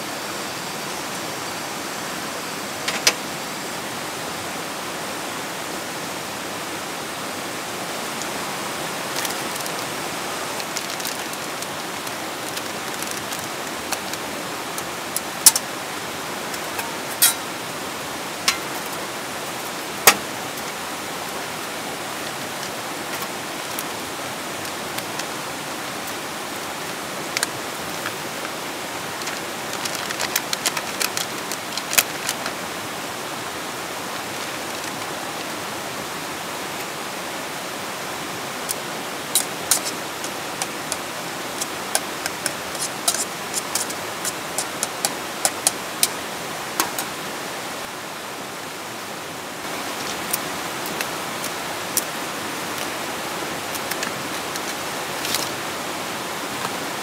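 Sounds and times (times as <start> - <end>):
rocky creek rushing: 0.0 - 57.0.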